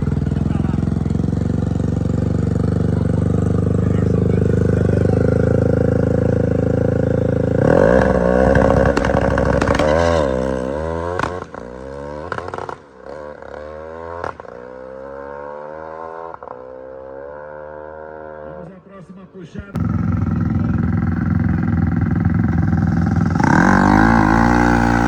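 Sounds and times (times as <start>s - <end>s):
motorcycle engine revving: 0.0s - 18.6s, 19.8s - 25.0s.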